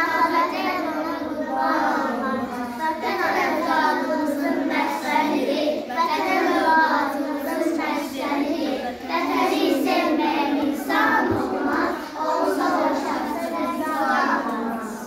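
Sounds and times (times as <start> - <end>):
children chanting in unison: 0.0 - 15.0.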